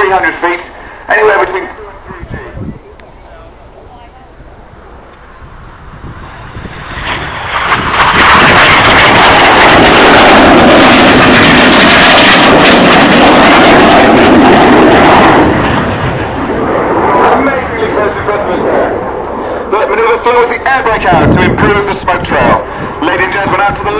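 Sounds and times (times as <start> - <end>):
jet aircraft low pass: 0.0 - 23.9.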